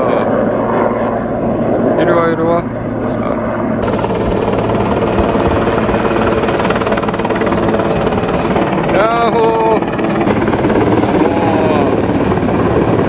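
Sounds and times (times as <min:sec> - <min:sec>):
helicopter rotor beating: 0:00.0 - 0:13.0.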